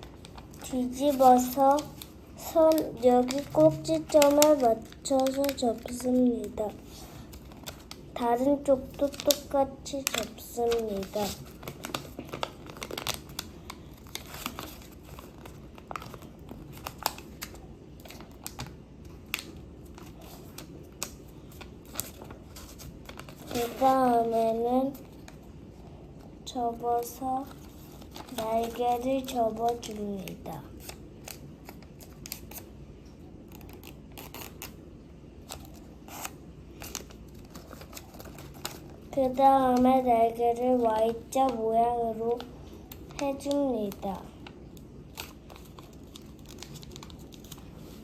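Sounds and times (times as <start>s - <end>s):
paper being folded: 0.0s - 25.5s, 26.2s - 32.8s, 33.4s - 34.8s, 35.4s - 48.0s.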